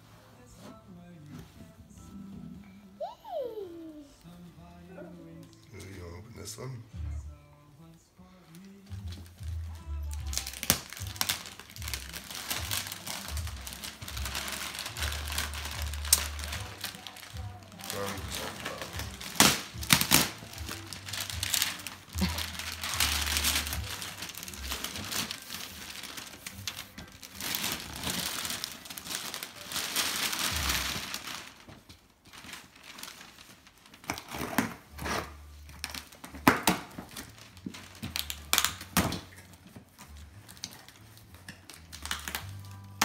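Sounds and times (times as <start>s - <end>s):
wrapping paper rustling and tearing: 8.2s - 43.0s.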